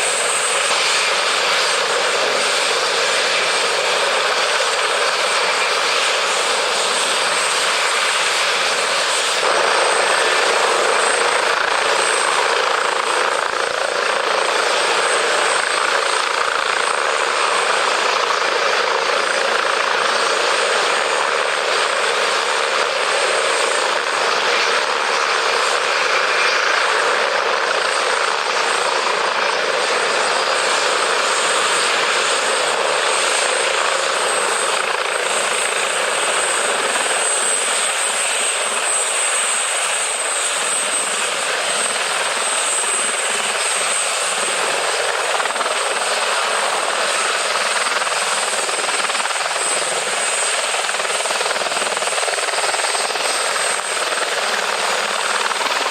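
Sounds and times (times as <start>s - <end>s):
aircraft engine rush: 0.0s - 55.9s.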